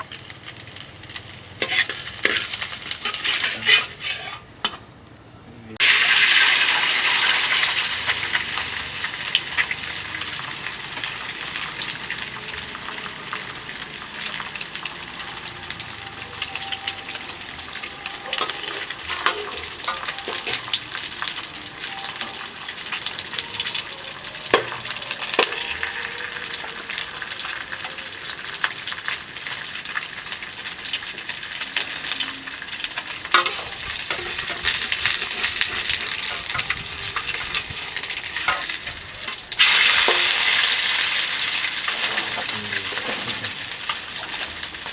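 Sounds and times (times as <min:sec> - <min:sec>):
egg sizzling in hot oil: 0:00.0 - 0:04.5, 0:05.8 - 0:44.9.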